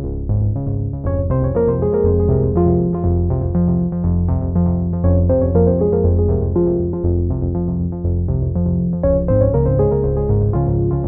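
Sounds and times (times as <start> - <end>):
synthesizer melody over bass line: 0.0 - 11.0.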